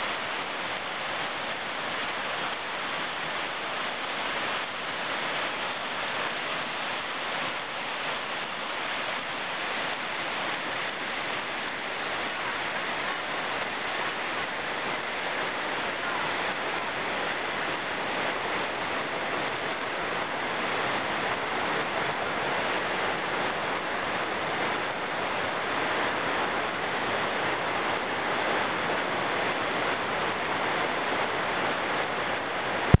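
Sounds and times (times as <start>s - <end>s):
whitewater rapid roaring: 0.0s - 33.0s.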